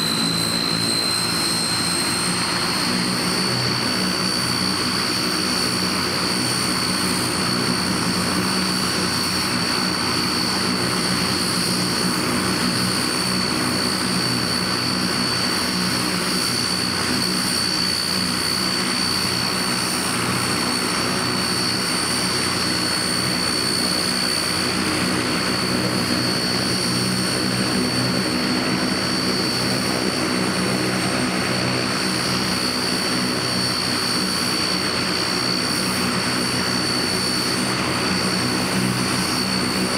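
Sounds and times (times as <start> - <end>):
propeller drone: 0.0 - 39.9
turbine whine: 0.0 - 39.9.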